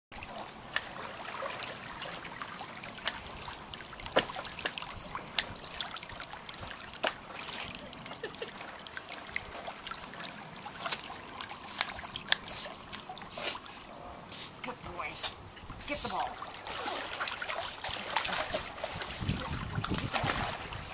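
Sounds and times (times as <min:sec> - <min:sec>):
water splashing and trickling: 0:00.1 - 0:20.9.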